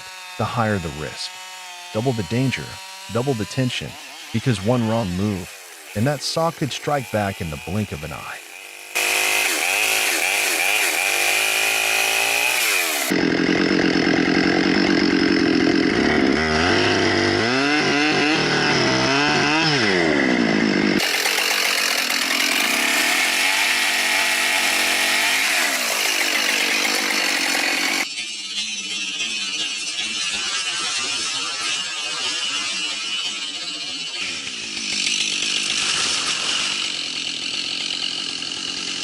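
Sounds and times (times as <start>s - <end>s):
chainsaws revving and cutting: 0.0s - 39.0s.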